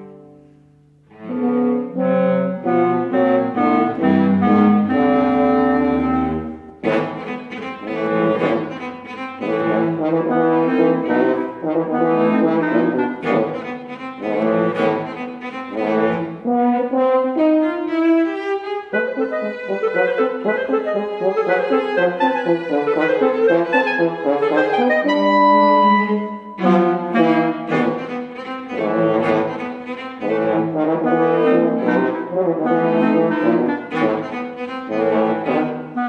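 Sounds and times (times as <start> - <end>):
cello: 0.0 - 36.0
clarinet: 0.0 - 36.0
french horn: 0.0 - 36.0.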